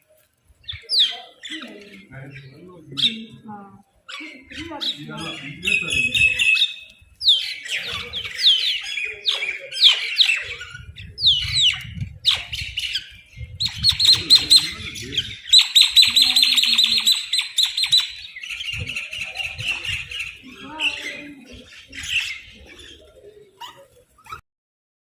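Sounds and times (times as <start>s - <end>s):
birds chirping: 0.0s - 24.4s
birds rattling chatter: 0.4s - 24.4s.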